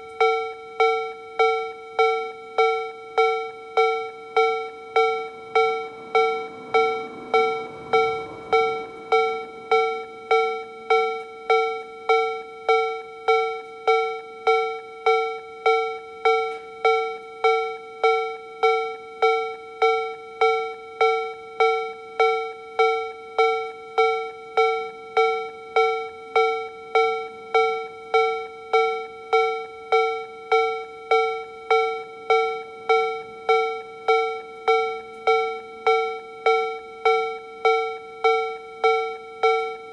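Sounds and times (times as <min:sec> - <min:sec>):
level crossing alarm dinging: 0:00.0 - 0:39.9.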